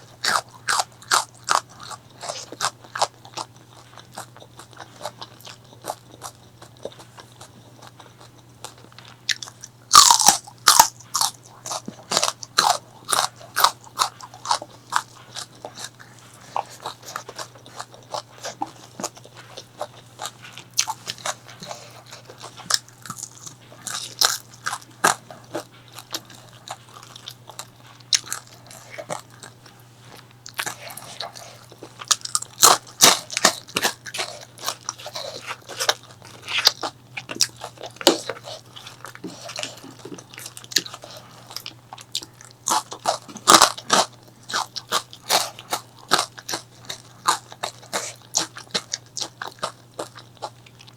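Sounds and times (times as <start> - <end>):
crunching bites of food: 0.0 - 50.9
faint low hum: 0.0 - 50.9
soft chewing: 0.0 - 50.9.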